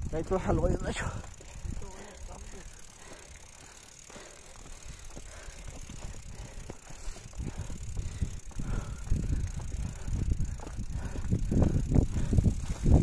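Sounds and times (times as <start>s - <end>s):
bike tyres crunching on dirt: 0.0s - 13.0s.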